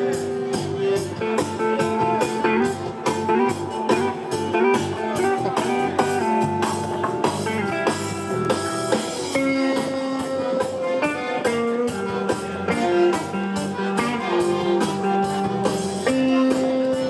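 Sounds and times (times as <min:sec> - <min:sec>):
blues band playing: 0:00.0 - 0:17.0.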